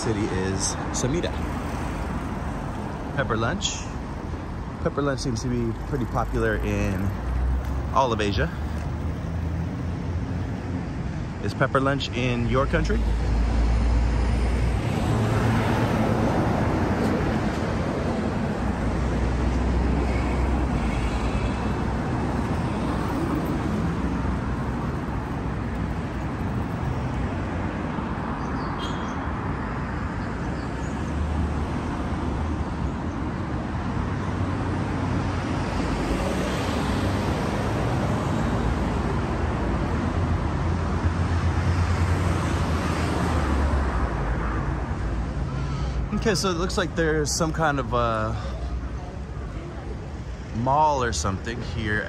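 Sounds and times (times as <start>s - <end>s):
cars and trucks passing: 0.0s - 52.0s.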